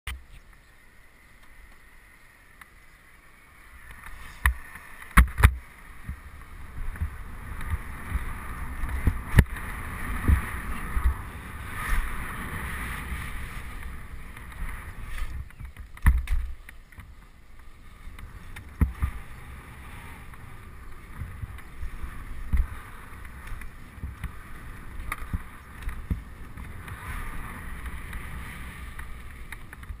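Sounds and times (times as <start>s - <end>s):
bike tyres rolling on concrete: 0.2s - 30.0s
wind noise on microphone: 3.8s - 30.0s.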